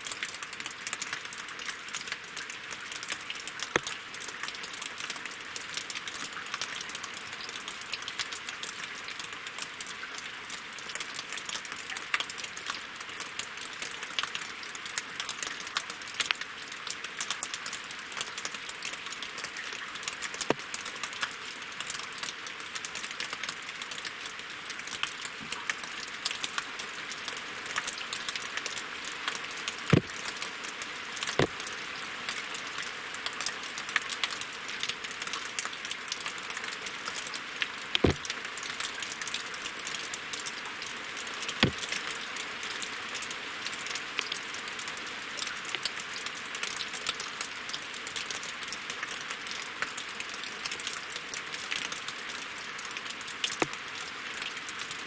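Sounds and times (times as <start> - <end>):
rain falling on a lake: 0.0 - 55.0.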